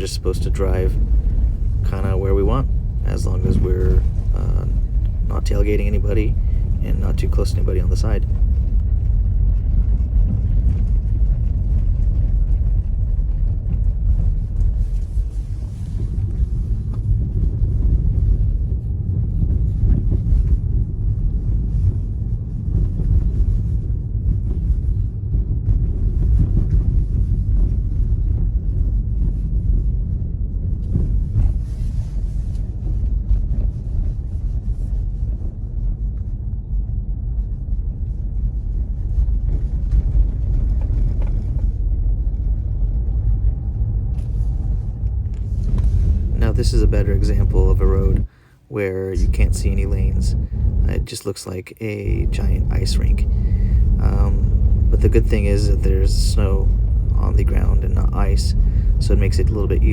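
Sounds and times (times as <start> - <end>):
tyre and road noise in cabin: 0.0 - 59.9.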